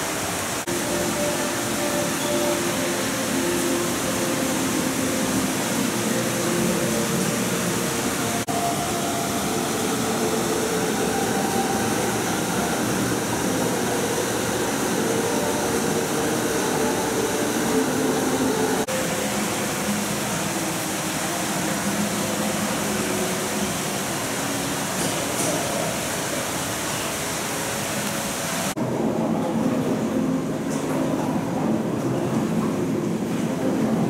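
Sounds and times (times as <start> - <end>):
pumps and ventilation rushing: 0.0 - 34.0
distant voices murmuring: 0.1 - 34.0.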